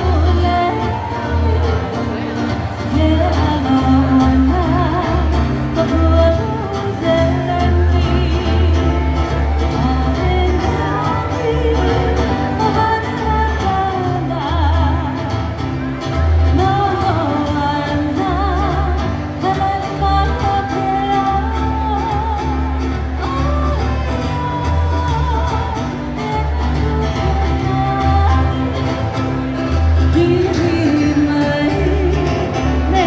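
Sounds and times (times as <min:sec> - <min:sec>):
strummed guitars: 0:00.0 - 0:33.0.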